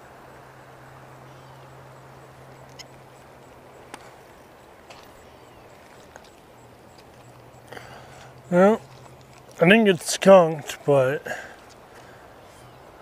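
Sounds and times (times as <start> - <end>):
low steady hum: 0.0 - 13.0
river water rushing: 0.0 - 13.0.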